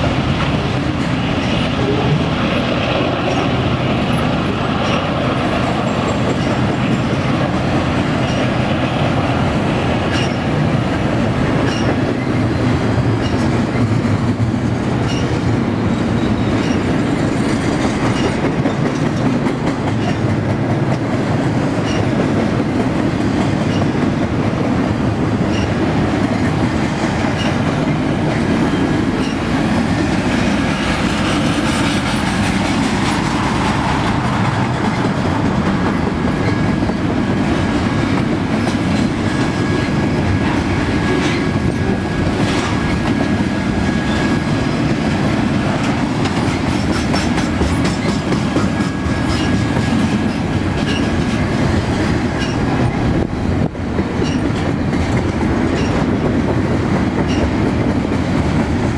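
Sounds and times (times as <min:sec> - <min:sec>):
train wheels rumbling on rail: 0:00.0 - 0:58.9
wheels clacking over rail joints: 0:00.0 - 0:58.9.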